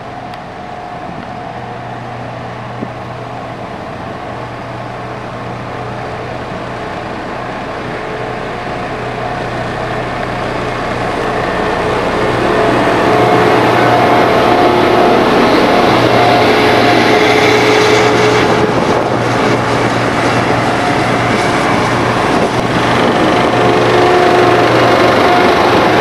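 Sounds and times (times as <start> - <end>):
diesel machine engine running: 0.0 - 26.0
steady machine whine: 0.0 - 26.0.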